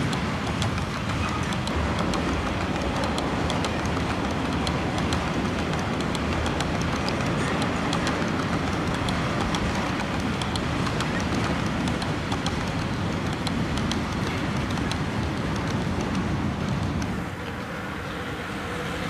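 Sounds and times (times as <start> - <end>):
model train wheels rumbling: 0.0 - 19.0
wheels clicking over rail joints: 0.0 - 19.0.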